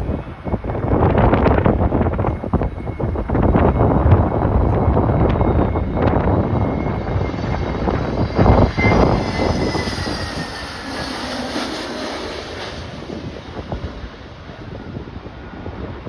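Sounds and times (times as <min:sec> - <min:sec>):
jet airliner engine whine: 0:00.0 - 0:16.0
wind buffeting microphone: 0:00.0 - 0:16.0.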